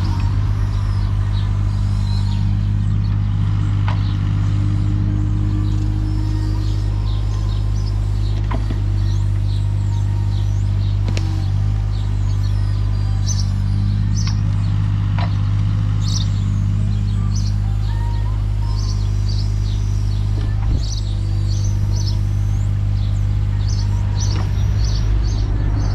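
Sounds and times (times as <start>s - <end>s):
birds chirping: 0.0s - 25.9s
excavator diesel engine running: 0.0s - 25.9s.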